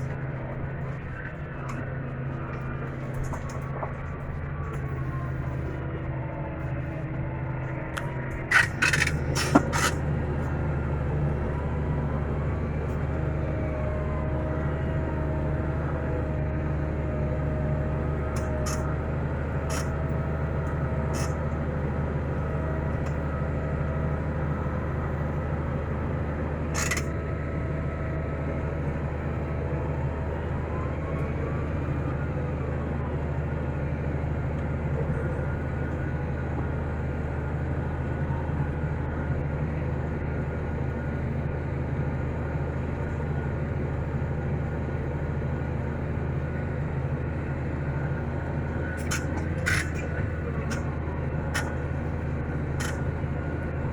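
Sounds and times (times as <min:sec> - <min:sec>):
tractor engine droning: 0:00.0 - 0:53.9.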